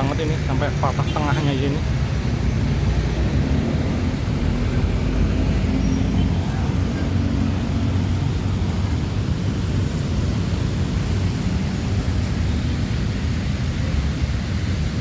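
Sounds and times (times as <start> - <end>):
faint engine hum: 0.0 - 15.0
road traffic rumble: 0.0 - 15.0.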